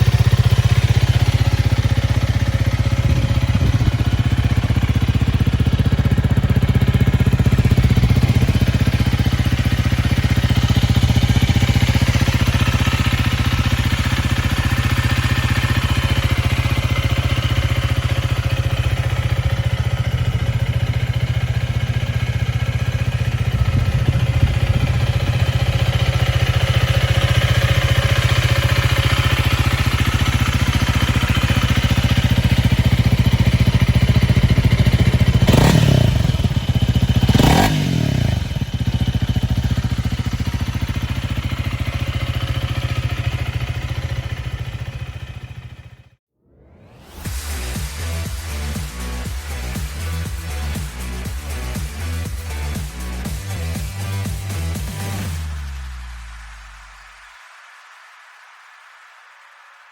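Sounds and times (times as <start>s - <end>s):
motorcycle engine idling: 0.0s - 46.2s, 48.1s - 55.4s.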